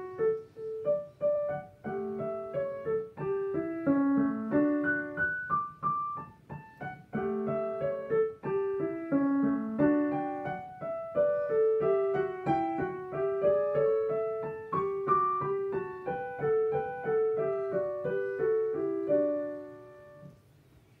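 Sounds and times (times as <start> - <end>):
digital piano chords and melody: 0.0 - 20.5.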